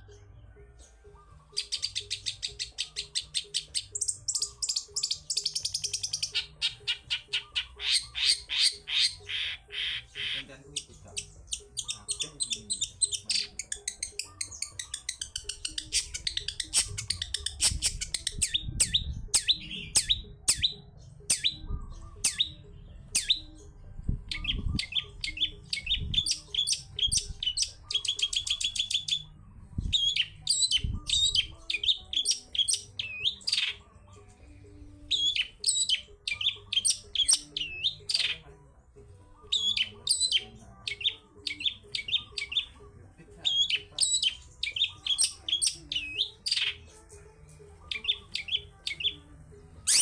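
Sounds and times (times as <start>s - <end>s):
shrike singing chips and trills: 0.0s - 38.5s, 39.3s - 42.8s, 43.4s - 47.1s, 47.8s - 50.0s.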